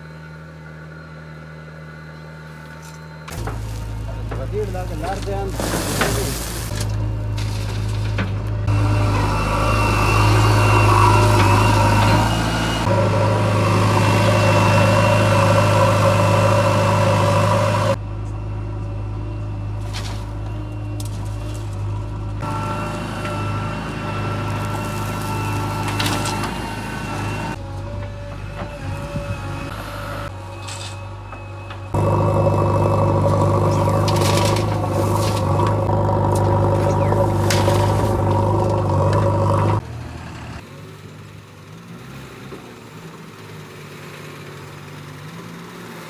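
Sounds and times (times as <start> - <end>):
diesel engine running: 0.0 - 30.5, 31.7 - 46.0.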